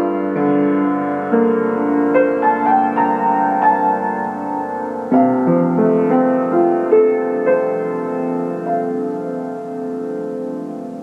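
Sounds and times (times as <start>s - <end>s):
grand piano played slowly: 0.0s - 11.0s.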